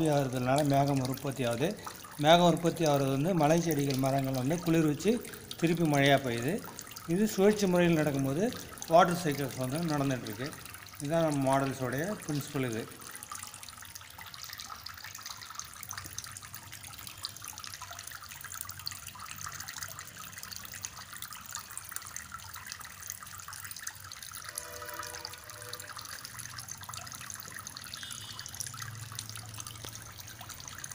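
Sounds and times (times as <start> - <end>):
water trickling and dripping: 0.0 - 30.9.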